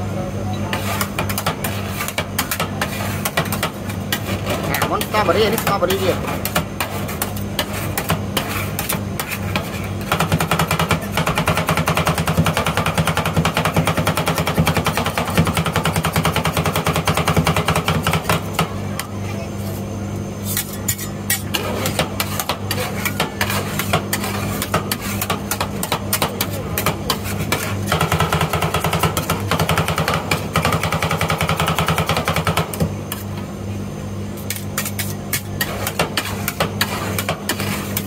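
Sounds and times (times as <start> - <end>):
steady low hum: 0.0 - 38.0
spatula scraping ice cream: 0.7 - 18.6, 19.3 - 30.9, 34.4 - 38.0
metal spatulas chopping on steel plate: 0.7 - 18.7, 20.4 - 33.2, 34.4 - 38.0.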